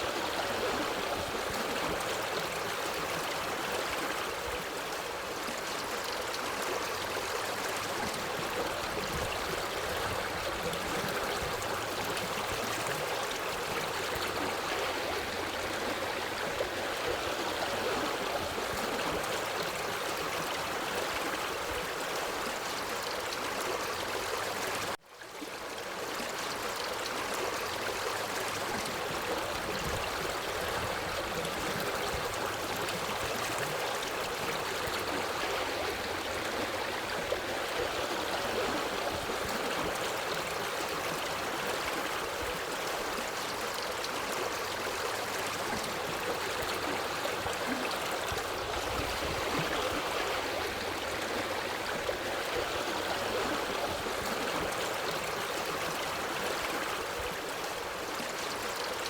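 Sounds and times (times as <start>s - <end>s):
forest stream flowing: 0.0s - 59.0s.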